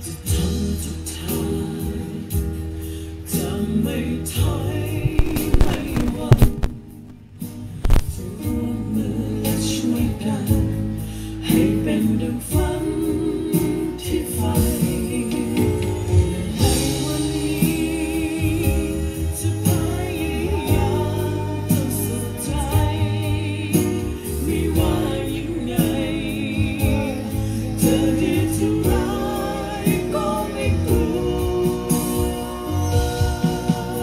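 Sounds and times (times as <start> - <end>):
music with singing: 0.0 - 34.0.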